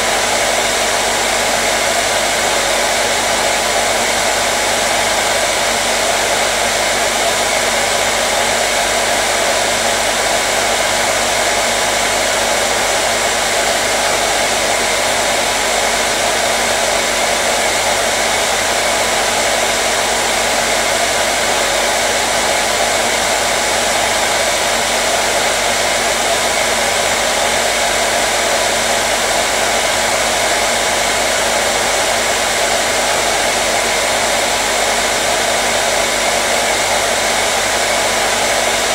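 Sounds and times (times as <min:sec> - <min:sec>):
hair dryer blowing air: 0:00.0 - 0:38.9.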